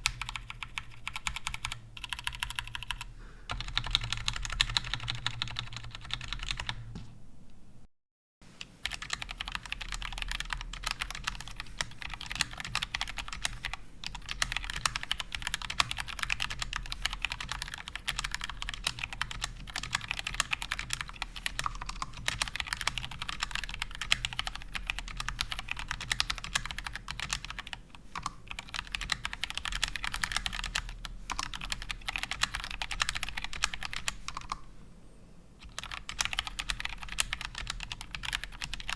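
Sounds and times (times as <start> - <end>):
mechanical keyboard typing: 0.0 - 6.8, 8.8 - 34.6, 35.6 - 38.9.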